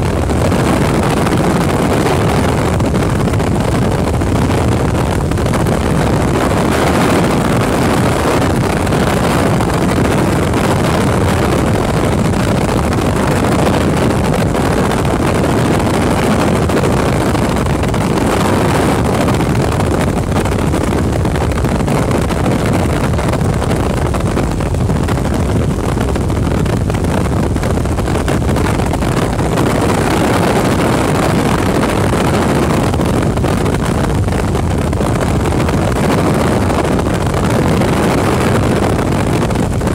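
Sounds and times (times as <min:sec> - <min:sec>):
helicopter engine and rotors: 0:00.0 - 0:39.9
wind noise on microphone: 0:00.0 - 0:39.9.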